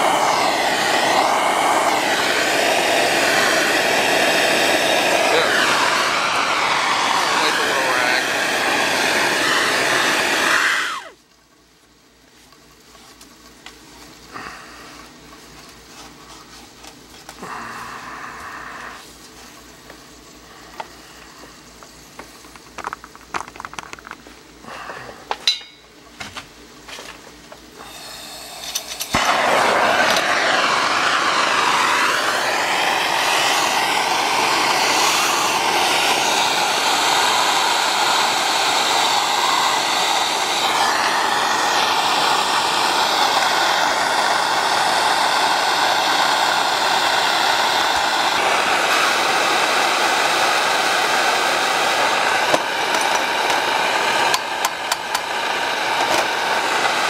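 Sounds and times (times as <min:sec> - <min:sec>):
propane torch flame hissing: 0:00.0 - 0:57.0.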